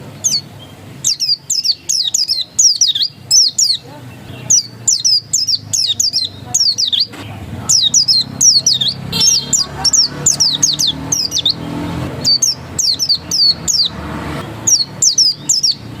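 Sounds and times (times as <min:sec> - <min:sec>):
bird high falling chirps: 0:00.0 - 0:16.0.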